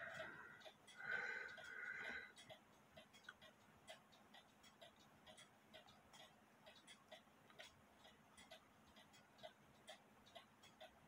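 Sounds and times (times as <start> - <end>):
pendulum clock ticking: 0.0 - 11.0.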